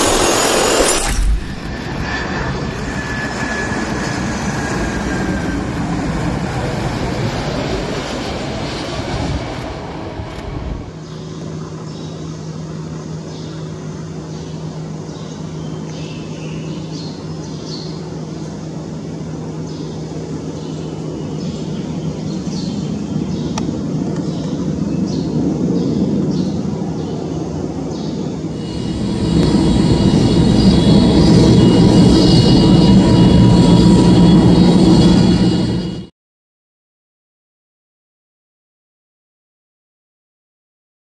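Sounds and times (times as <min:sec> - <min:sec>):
high jet engine whine: 0:00.0 - 0:36.1
jet engines rumbling: 0:00.0 - 0:36.1.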